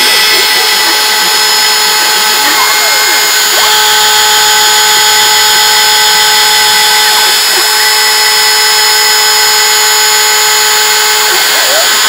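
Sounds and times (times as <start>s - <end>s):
router spindle high whine: 0.0s - 12.0s.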